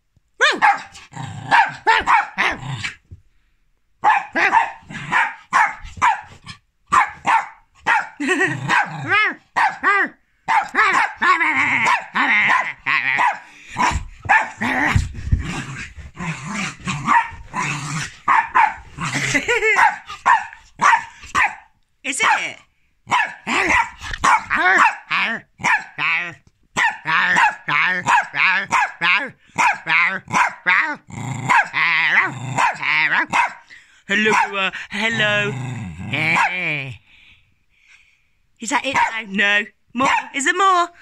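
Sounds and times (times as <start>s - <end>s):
dog barking excitedly: 0.4s - 3.0s, 4.0s - 15.9s, 16.6s - 35.3s, 36.2s - 36.6s, 38.7s - 39.3s, 40.0s - 40.6s.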